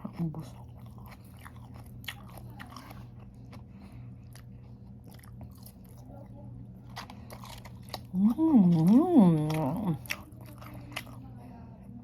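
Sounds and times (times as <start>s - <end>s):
chewing crunchy food: 0.0s - 11.6s
steady low hum: 0.0s - 12.0s.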